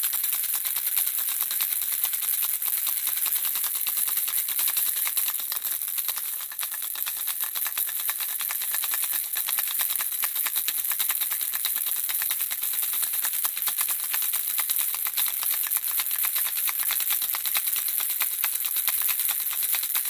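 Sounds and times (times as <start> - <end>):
baby rattle shaken: 0.0 - 20.0.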